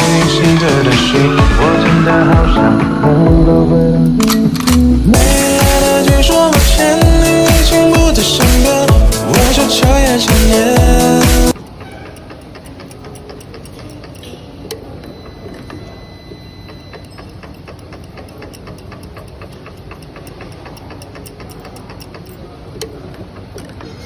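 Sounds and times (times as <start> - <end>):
machine mechanical ticking: 0.0 - 24.0
sharp machine click: 4.0 - 24.0.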